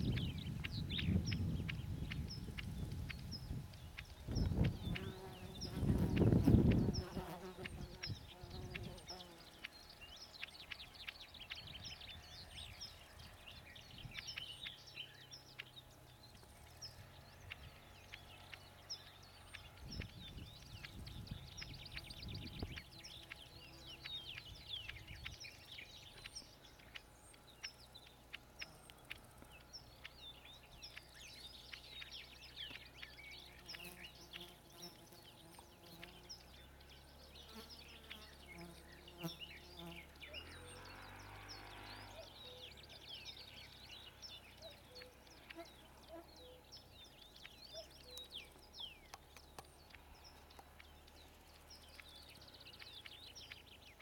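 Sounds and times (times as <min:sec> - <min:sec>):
bird singing high chirps: 0:00.0 - 0:54.0.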